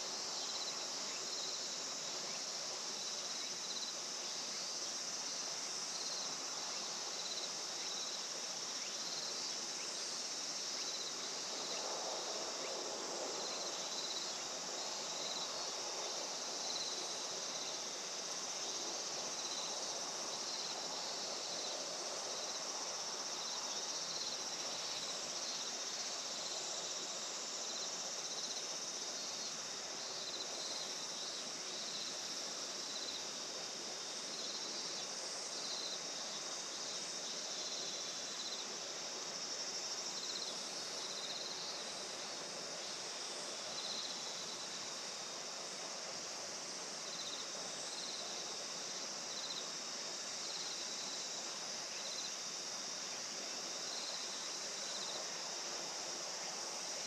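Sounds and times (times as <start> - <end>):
pulsing insect chirp: 0.0 - 57.0.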